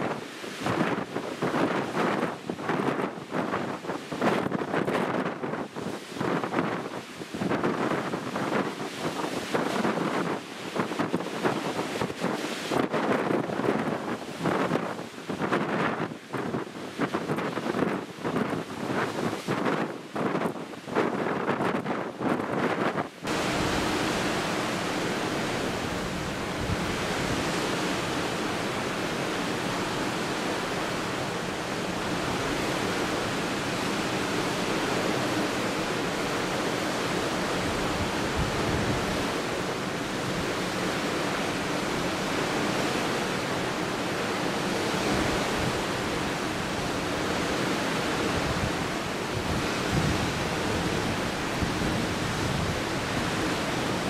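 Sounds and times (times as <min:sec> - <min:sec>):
sea and wind rushing: 0:00.0 - 0:54.0
wind buffeting microphone: 0:00.0 - 0:54.0.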